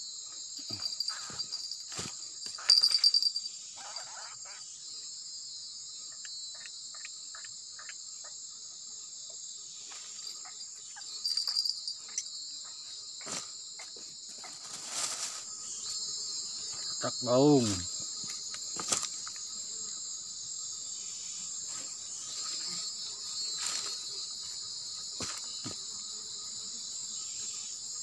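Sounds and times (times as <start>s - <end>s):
night insects chorus: 0.0s - 28.0s.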